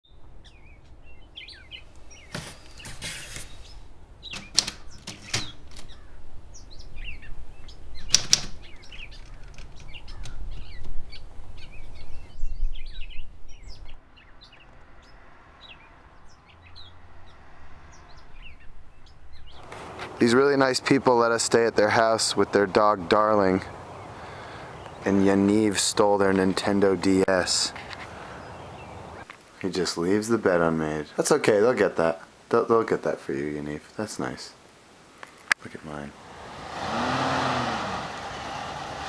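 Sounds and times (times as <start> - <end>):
small birds chirping: 0.0 - 21.0, 21.9 - 32.3.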